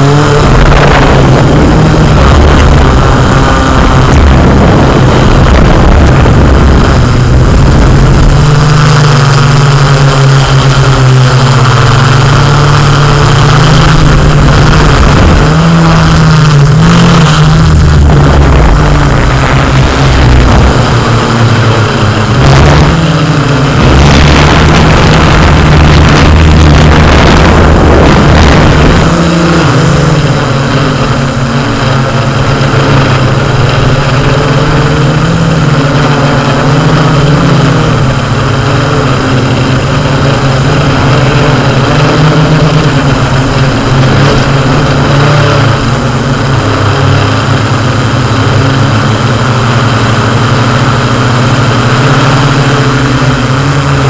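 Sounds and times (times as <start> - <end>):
deep rumble: 0.0 - 54.0
drone propellers humming: 0.0 - 54.0.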